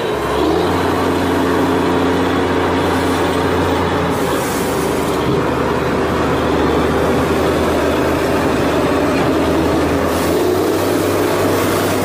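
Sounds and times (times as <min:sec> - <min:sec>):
heavy truck engine idling: 0:00.0 - 0:12.0.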